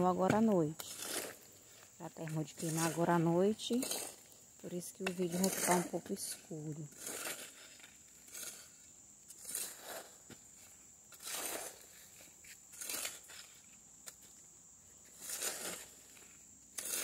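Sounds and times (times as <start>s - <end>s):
hoe scraping sand: 0.0s - 17.0s.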